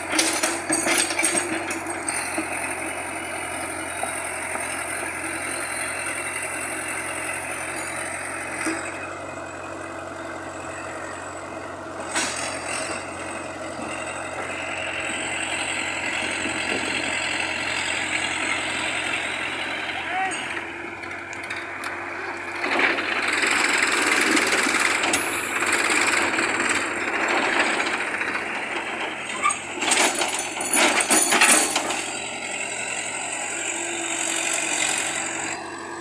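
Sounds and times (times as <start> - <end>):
heavy machinery engine running: 0.0 - 36.0.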